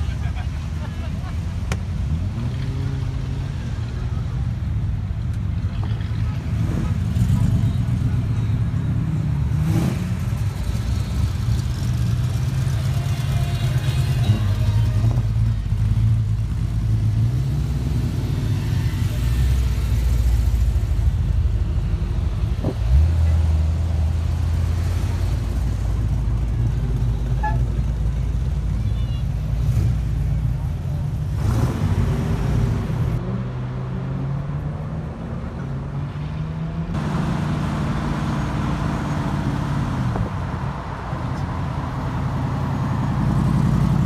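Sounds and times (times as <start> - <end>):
car engines rumbling: 0.0 - 44.0.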